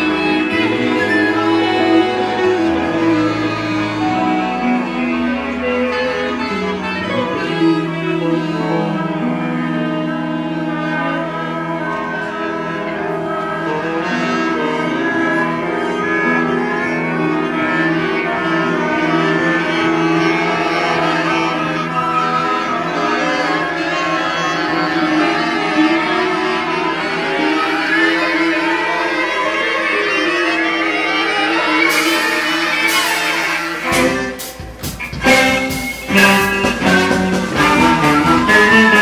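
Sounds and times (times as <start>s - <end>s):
ensemble playing long-held notes: 0.0s - 39.0s.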